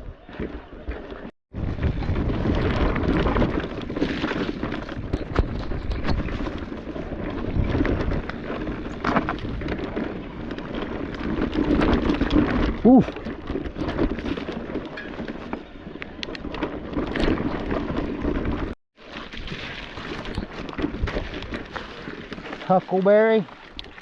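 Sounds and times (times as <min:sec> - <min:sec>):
wind noise on microphone: 0:00.0 - 0:22.6
bike rattling over rocky trail: 0:00.1 - 0:24.0.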